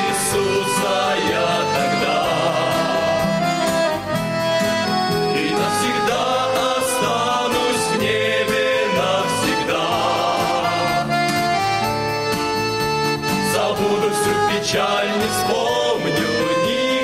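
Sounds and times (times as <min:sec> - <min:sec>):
men's choir singing a hymn: 0:00.0 - 0:03.9, 0:05.2 - 0:11.6, 0:13.3 - 0:17.0
sustained instrumental accompaniment: 0:00.0 - 0:17.0.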